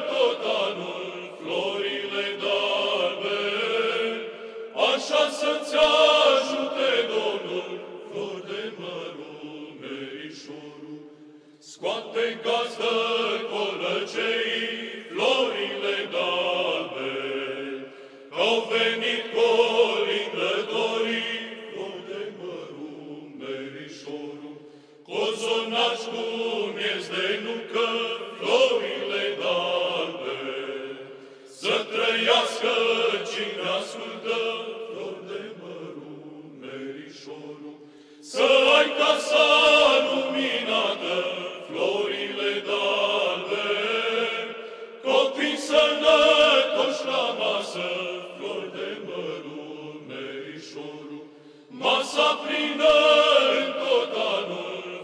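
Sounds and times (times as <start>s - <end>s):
male choir chanting a carol: 0.0s - 55.0s.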